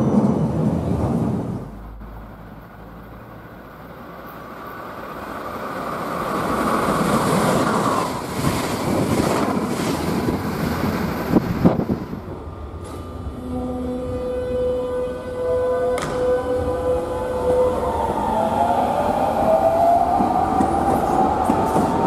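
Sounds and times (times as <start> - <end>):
train rail noise: 0.0 - 22.0.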